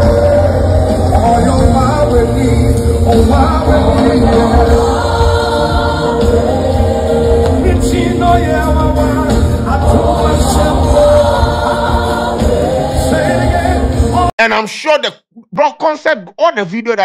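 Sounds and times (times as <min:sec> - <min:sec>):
band with steady bass: 0:00.0 - 0:14.3
choir singing gospel: 0:00.0 - 0:14.3.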